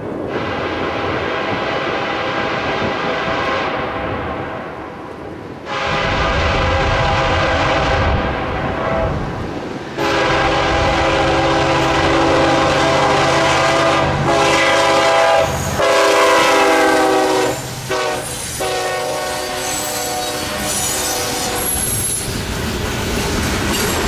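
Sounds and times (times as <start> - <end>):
train rumble and wheel noise: 0.0 - 24.0
locomotive horn blasts: 0.3 - 4.8, 5.7 - 9.3, 10.0 - 21.8.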